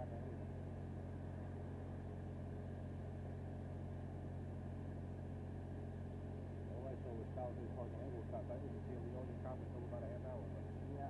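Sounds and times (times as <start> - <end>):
engine idling hum: 0.0 - 11.0.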